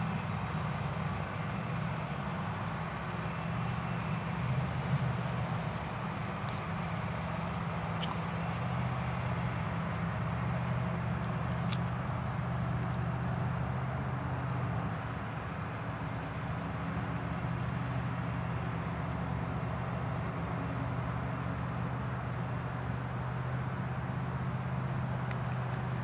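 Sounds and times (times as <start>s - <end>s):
distant harvester engine drone: 0.0s - 26.0s.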